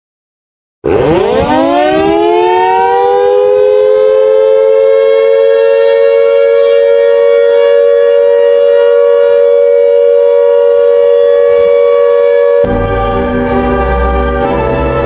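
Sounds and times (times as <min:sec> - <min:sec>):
air-raid siren wailing: 0:00.8 - 0:15.0.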